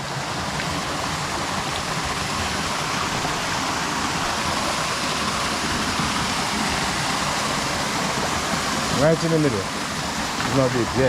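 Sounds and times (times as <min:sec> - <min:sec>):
stream water flowing over stones: 0:00.0 - 0:11.0.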